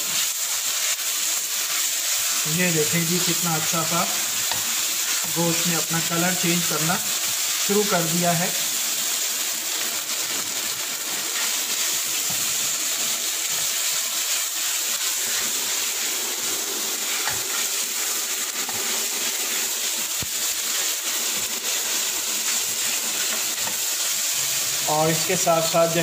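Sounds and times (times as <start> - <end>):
meat sizzling in a wok: 0.0 - 26.0.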